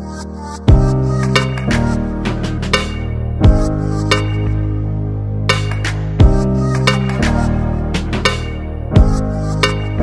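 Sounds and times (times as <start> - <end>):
background music with bass chords: 0.0 - 10.0.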